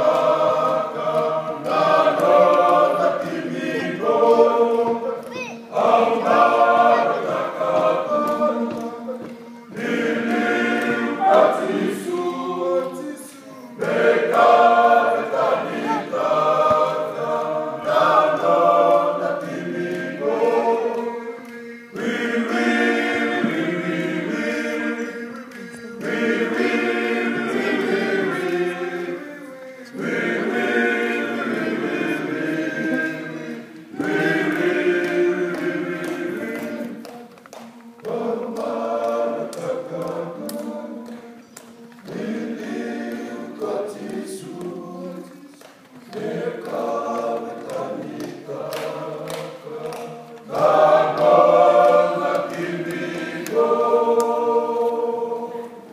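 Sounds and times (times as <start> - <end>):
men singing in harmony: 0.0 - 55.9.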